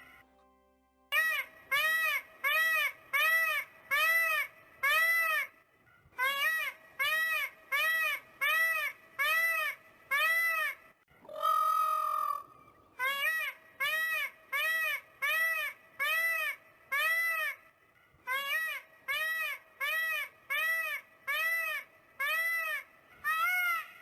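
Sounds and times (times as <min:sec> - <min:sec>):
peacock honking calls: 0:01.1 - 0:05.5, 0:06.2 - 0:17.6, 0:18.3 - 0:24.0.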